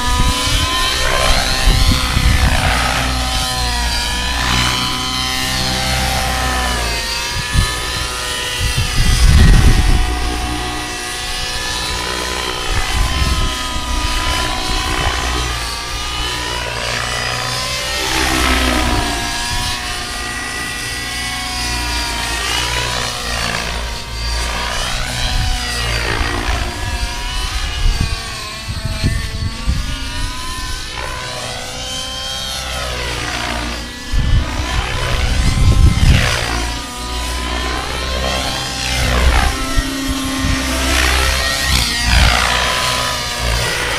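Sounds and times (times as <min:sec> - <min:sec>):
model helicopter engine whining: 0:00.0 - 0:43.9.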